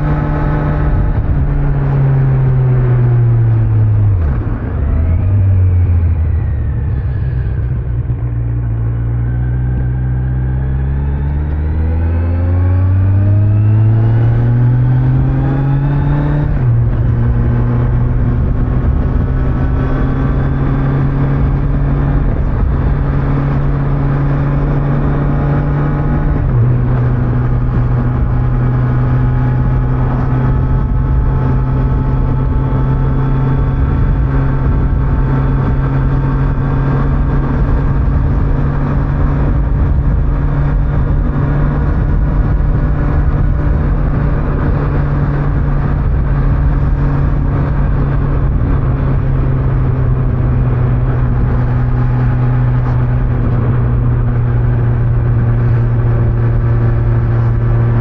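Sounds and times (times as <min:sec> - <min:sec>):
motorcycle engine cruising: 0:00.0 - 0:58.0
road and wind noise: 0:00.0 - 0:58.0.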